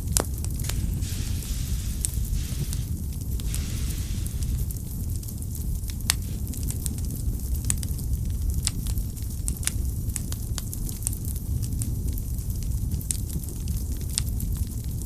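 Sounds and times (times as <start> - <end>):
fire crackles and pops: 0.0 - 15.0
fire flames rumbling: 0.0 - 15.0.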